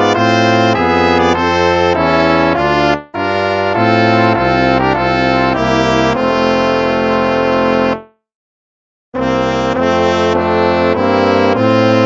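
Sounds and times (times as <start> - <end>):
brass hymn music: 0.0 - 8.2, 9.2 - 12.0.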